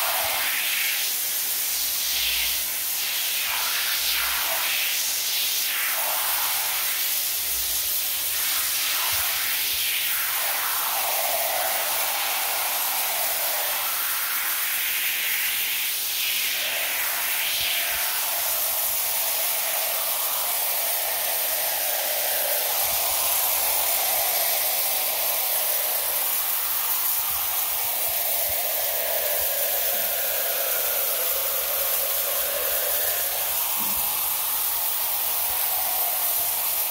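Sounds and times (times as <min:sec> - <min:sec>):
foam sprayer hissing: 0:00.0 - 0:36.9.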